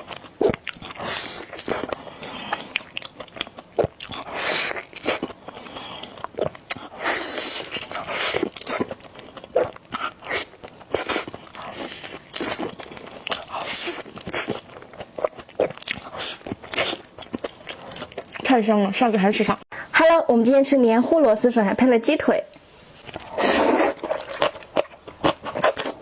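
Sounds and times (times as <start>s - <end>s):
chewing and slurping noodles: 0.0s - 18.5s, 23.0s - 26.0s.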